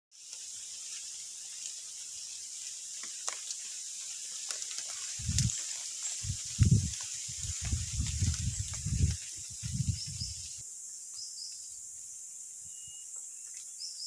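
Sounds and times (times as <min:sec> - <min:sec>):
insects droning: 0:00.2 - 0:14.0.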